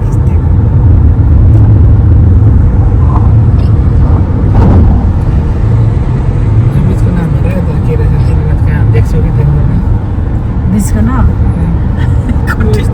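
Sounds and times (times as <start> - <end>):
car driving with low rumble: 0.0 - 12.9.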